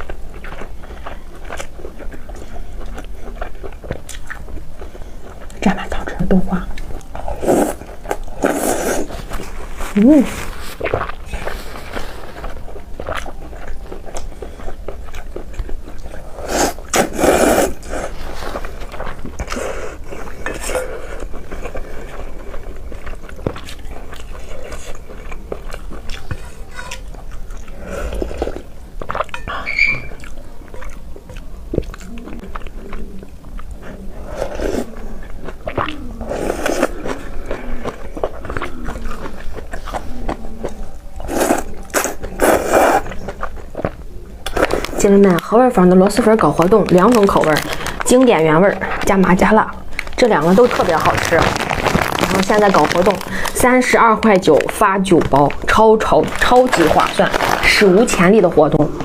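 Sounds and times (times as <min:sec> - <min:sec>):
chewing and slurping food: 0:00.0 - 0:06.1, 0:06.7 - 0:59.0.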